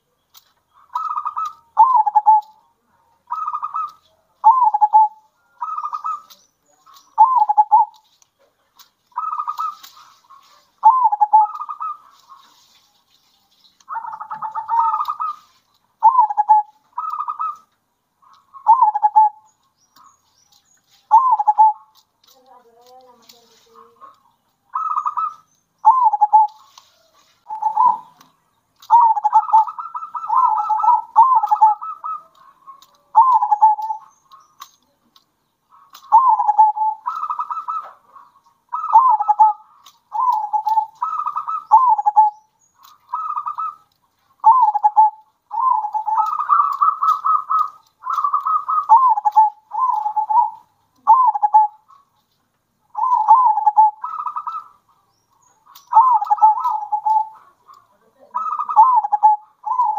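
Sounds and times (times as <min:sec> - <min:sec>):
doves cooing: 0:00.6 - 0:12.7, 0:13.8 - 0:20.2, 0:21.0 - 0:52.2, 0:52.9 - 0:59.9.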